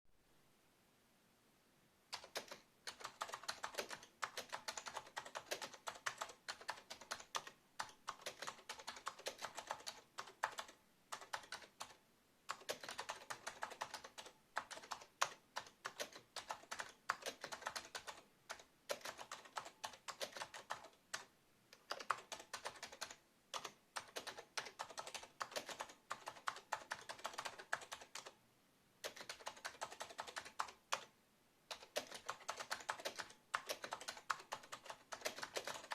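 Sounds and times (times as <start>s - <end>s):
keyboard typing clicks: 2.1s - 28.4s, 29.0s - 31.1s, 31.7s - 35.9s.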